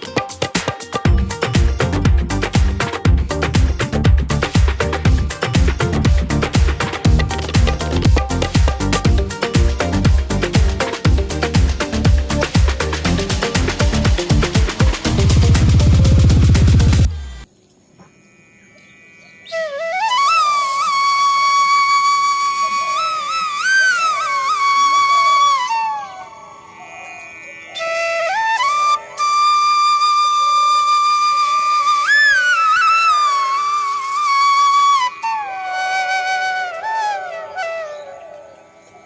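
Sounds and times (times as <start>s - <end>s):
solo flute melody: 0.0s - 16.8s, 19.4s - 26.9s, 27.7s - 38.9s.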